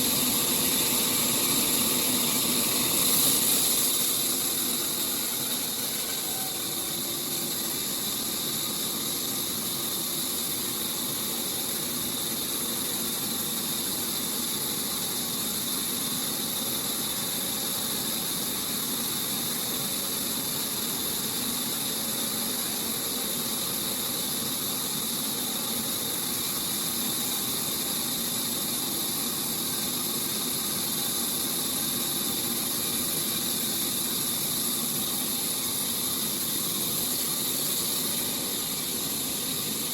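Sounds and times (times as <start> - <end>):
faint mechanical hum: 0.0 - 39.9
sawmill saw hiss: 0.0 - 39.9.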